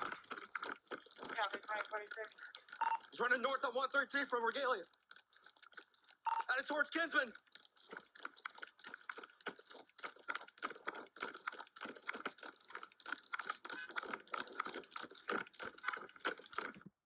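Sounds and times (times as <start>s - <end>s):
clothing and gear rattling while running: 0.0s - 16.9s.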